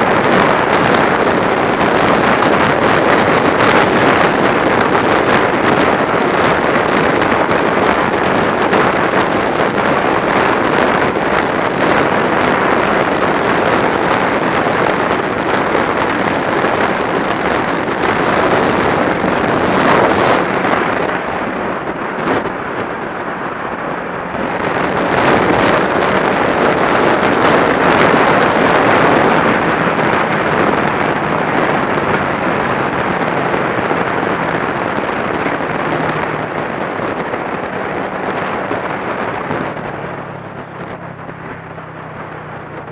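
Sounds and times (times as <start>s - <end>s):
motorcycle engine: 0.0s - 42.9s
wind rushing on microphone: 0.0s - 42.9s.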